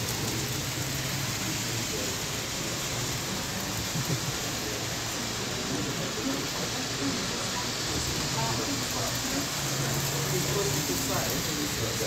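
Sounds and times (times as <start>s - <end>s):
toy train wheels rolling on track: 0.0s - 12.0s.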